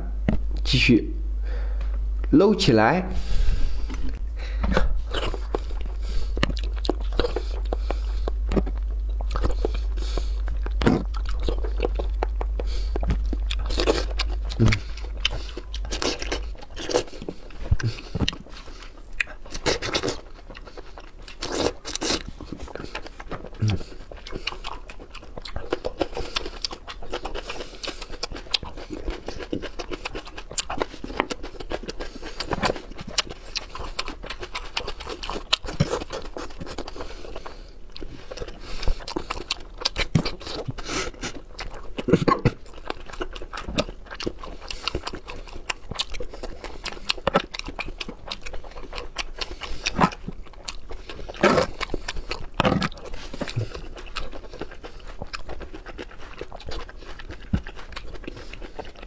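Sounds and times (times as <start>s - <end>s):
chewing raw vegetables: 3.2s - 59.0s.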